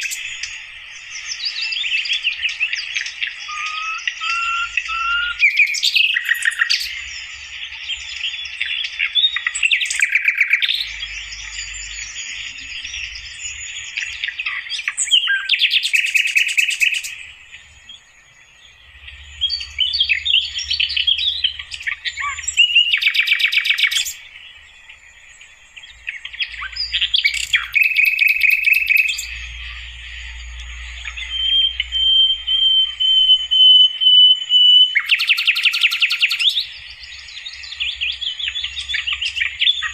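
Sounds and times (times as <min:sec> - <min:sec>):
flycatcher singing: 0:00.0 - 0:39.9.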